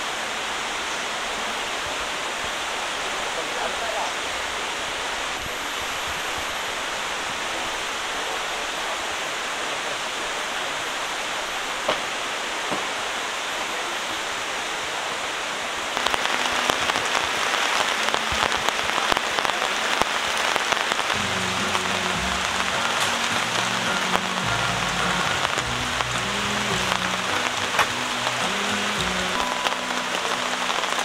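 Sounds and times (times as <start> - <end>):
rain drops pattering: 0.0 - 31.0
rushing water: 0.0 - 31.0.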